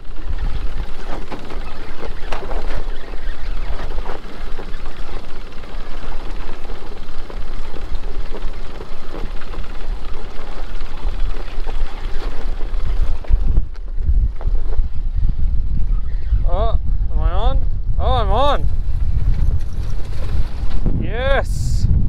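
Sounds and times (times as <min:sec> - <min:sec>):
outboard motor running: 0:00.0 - 0:15.3, 0:18.4 - 0:20.8
wind buffeting microphone: 0:00.0 - 0:22.0.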